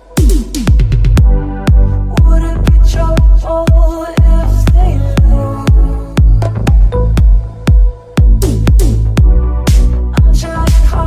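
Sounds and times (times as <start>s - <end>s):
electronic dance music: 0.0s - 11.0s
heavy bass kick drums: 0.0s - 11.0s.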